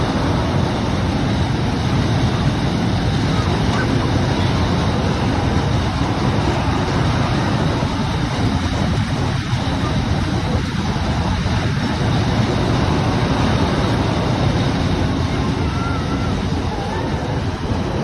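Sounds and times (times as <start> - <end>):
carnival ride rumbling: 0.0 - 18.0.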